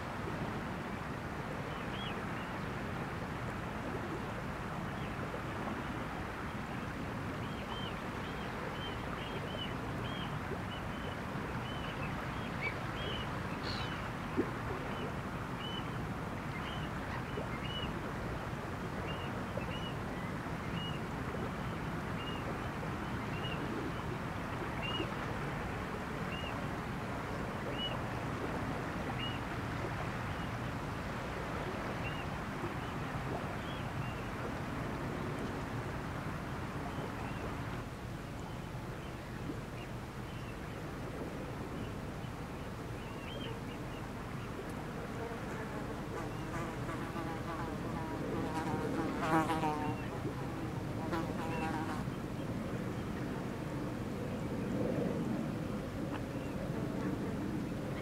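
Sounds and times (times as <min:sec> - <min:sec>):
rushing water: 0:00.0 - 0:54.8
wind: 0:00.0 - 0:58.0.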